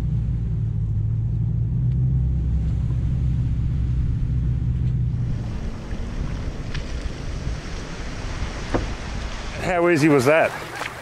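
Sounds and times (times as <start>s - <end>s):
truck engine rumbling at low revs: 0.0s - 11.0s.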